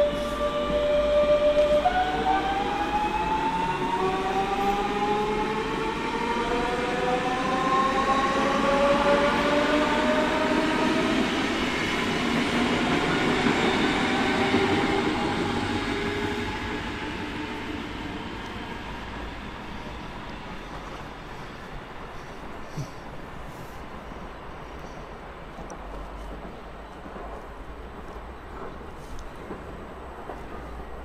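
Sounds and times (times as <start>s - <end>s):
train rolling rumble: 0.0s - 31.0s.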